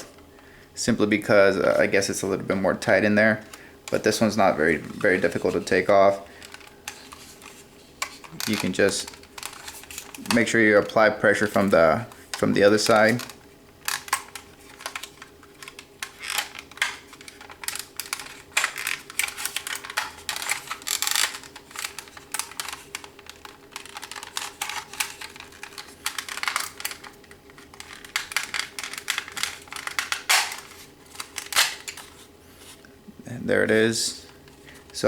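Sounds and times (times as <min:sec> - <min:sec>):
plastic tools prying plastic: 0:03.4 - 0:32.2.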